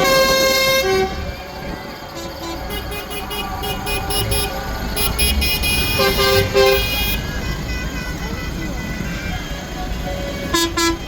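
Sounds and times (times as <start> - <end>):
low horn honks: 0.0 - 11.0
tractor engines rumbling: 0.0 - 11.0
vehicle horns beeping: 0.0 - 11.0.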